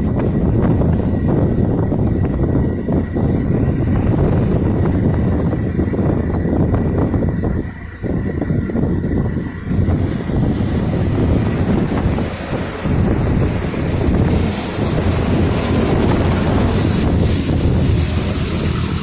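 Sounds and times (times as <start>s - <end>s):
moving vehicle rumbling: 0.0s - 19.0s
wind buffeting microphone: 0.0s - 19.0s.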